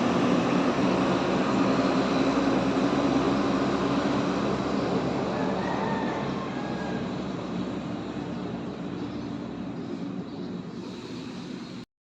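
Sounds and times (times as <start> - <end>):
diesel bus engine rumbling: 0.0 - 11.9.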